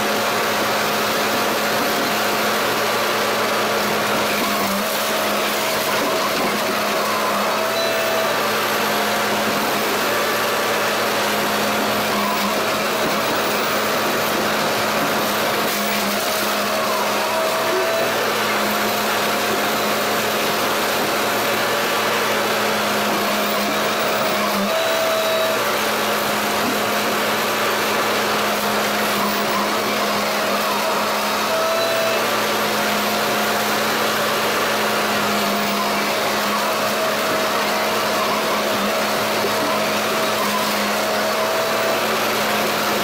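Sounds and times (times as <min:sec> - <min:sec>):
stump shredder and excavator whirring: 0:00.0 - 0:43.0.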